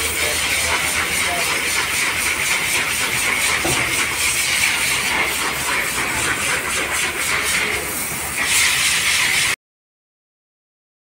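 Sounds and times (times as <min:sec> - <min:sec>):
pressure washer spraying concrete: 0:00.0 - 0:09.6.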